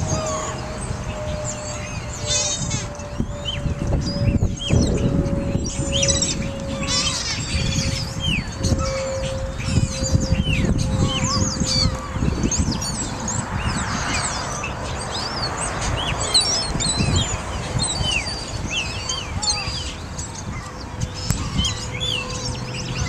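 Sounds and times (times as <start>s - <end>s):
gulls calling: 0.0s - 23.0s
wind buffeting microphone: 0.0s - 23.0s.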